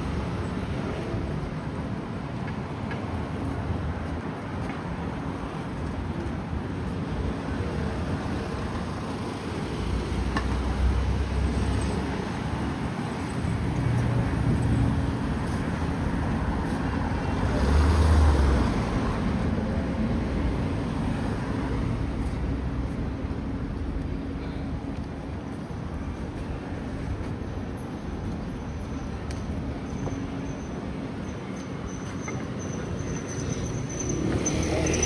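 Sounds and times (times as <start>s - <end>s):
traffic hum: 0.0s - 35.0s
vehicles passing by: 0.0s - 35.0s.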